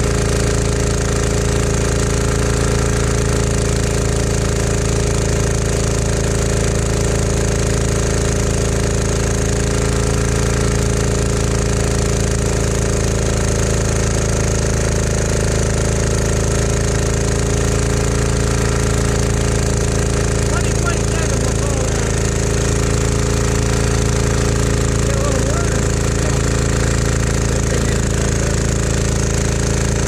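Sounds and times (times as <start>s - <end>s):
diesel generator running: 0.0s - 30.0s.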